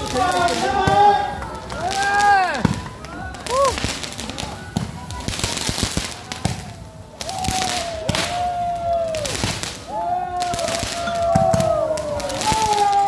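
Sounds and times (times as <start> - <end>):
firework crackling pops: 0.0 - 13.0
firework whistles: 1.8 - 13.0.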